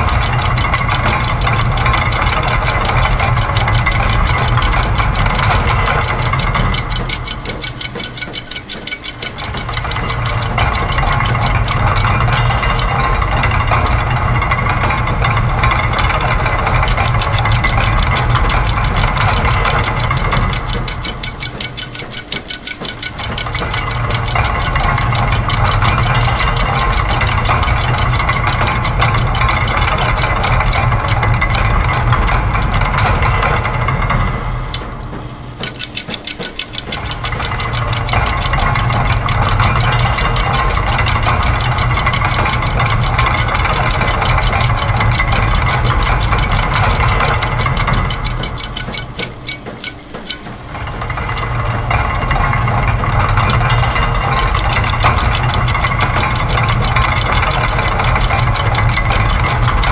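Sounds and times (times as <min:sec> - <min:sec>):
machine low hum: 0:00.0 - 0:59.9
rapid mechanical clatter: 0:00.0 - 0:59.9.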